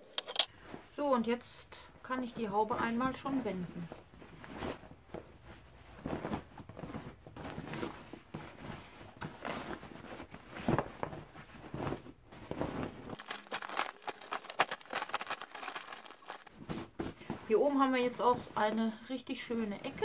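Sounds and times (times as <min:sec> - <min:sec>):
fabric rustling and crinkling: 0:02.1 - 0:18.8.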